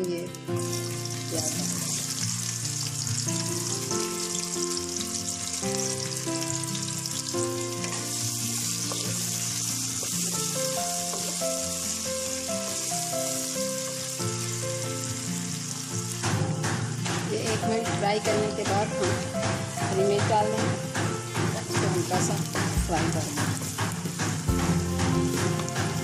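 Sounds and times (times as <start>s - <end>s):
background music with held notes: 0.0s - 26.0s
onions sizzling in hot oil: 0.0s - 26.0s.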